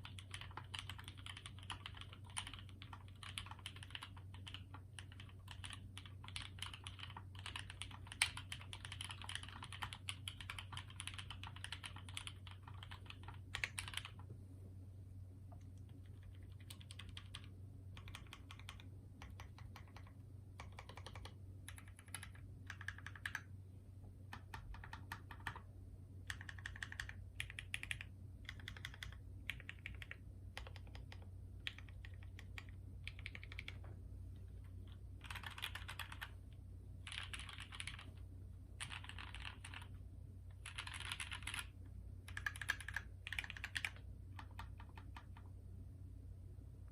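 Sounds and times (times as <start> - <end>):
mechanical keyboard typing: 0.0 - 14.3, 15.5 - 23.5, 24.3 - 33.9, 34.6 - 36.4, 37.0 - 38.2, 38.8 - 45.5.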